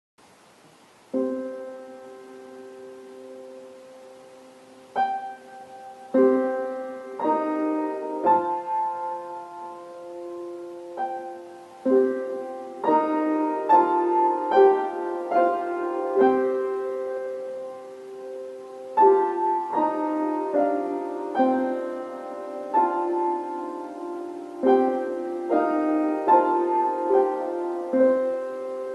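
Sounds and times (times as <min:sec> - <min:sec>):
slow solo piano: 0:00.5 - 0:28.9.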